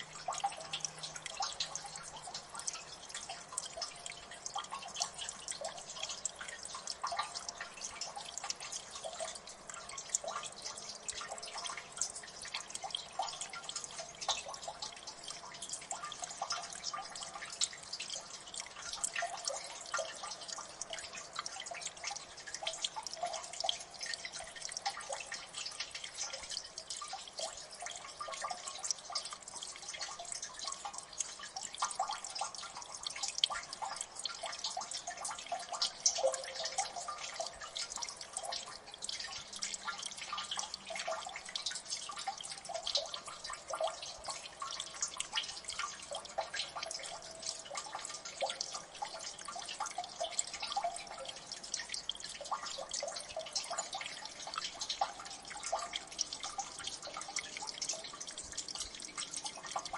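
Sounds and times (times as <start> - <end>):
water dripping and splashing: 0.0 - 59.9.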